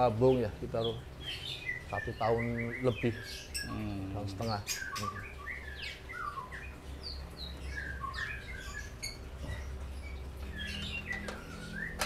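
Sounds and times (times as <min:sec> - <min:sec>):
birds chirping and calling: 0:00.0 - 0:12.0
low steady hum: 0:00.0 - 0:12.0.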